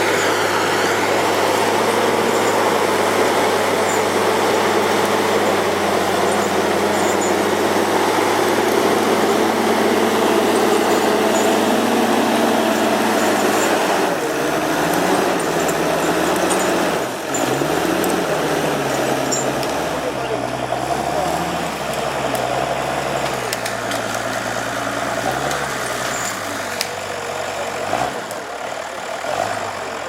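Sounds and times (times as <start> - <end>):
diesel engine running hard: 0.0 - 30.0.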